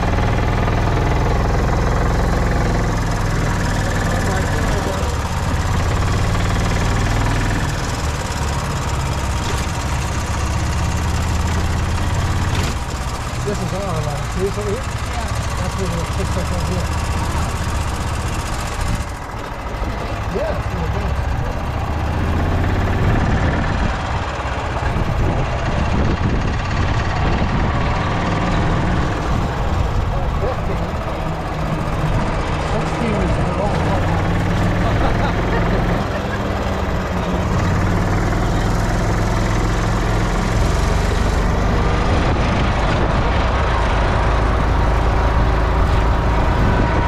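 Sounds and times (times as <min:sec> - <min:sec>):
golf cart engine running: 0:00.0 - 0:47.0.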